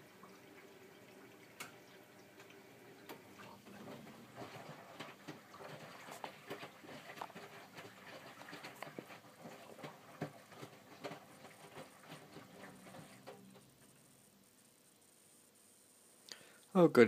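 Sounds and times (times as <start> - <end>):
washing machine water splashing: 0.0 - 14.4.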